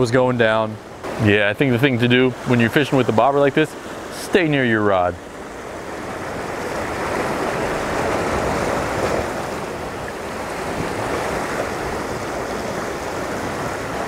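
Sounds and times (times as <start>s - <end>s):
surf washing against rocks: 0.0s - 14.0s.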